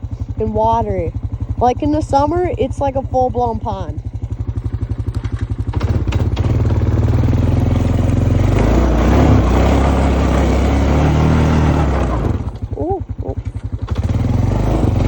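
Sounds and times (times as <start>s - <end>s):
four-wheeler engine revving: 0.0s - 15.0s.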